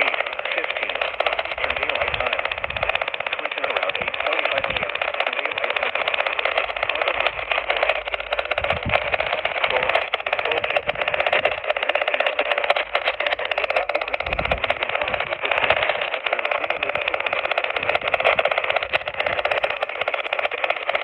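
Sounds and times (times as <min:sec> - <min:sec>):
buzzing radio static: 0:00.0 - 0:21.0.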